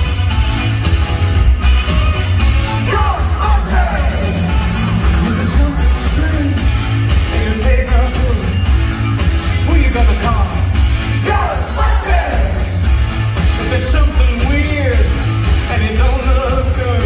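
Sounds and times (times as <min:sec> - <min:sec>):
singing over heavy bass beat: 0:00.0 - 0:17.0.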